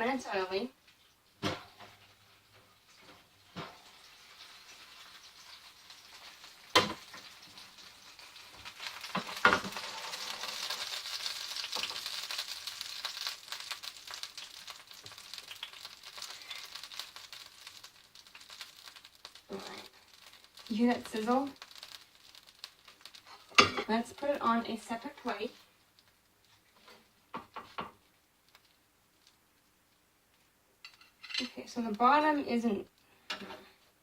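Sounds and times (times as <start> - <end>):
chicken sizzling in grease: 0.0 - 29.4.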